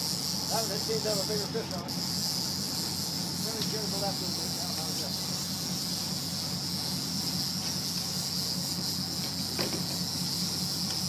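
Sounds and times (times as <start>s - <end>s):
boat engine running: 0.0s - 11.0s
steady high hiss: 0.0s - 11.0s.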